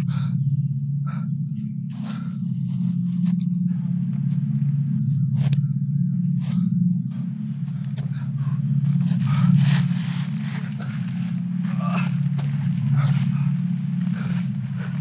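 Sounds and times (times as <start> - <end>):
low droning hum with flutter: 0.0 - 15.0.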